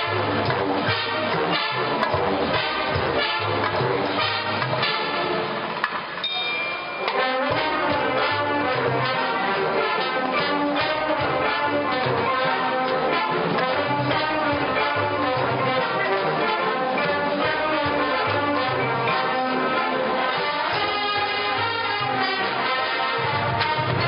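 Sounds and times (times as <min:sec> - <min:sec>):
marching band brass chords: 0:00.0 - 0:06.2, 0:06.8 - 0:24.0
sharp percussion hits: 0:00.0 - 0:24.0.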